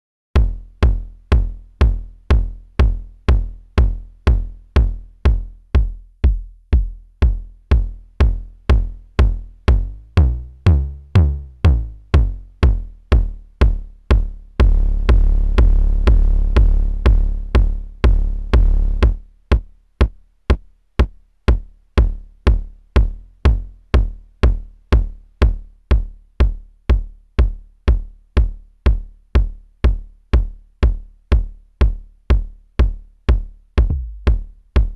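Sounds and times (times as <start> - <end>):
synthesized kick drum: 0.4 - 34.9.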